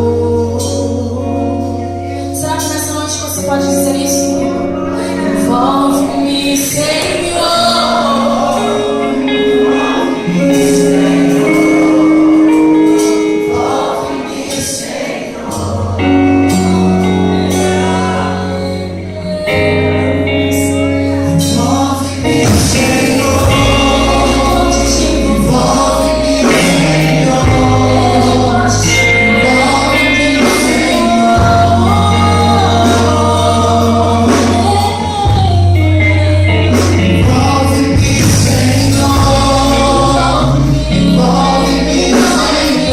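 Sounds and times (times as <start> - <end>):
deep bass notes: 0.0 - 14.4, 15.4 - 42.9
band playing: 0.0 - 42.9
choir singing: 3.9 - 42.9.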